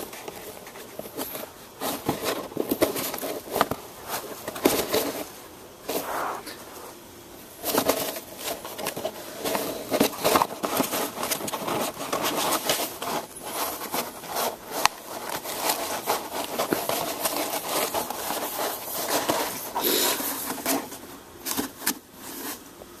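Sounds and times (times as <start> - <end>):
paper scraping and crinkling: 0.0 - 6.9, 7.6 - 22.7.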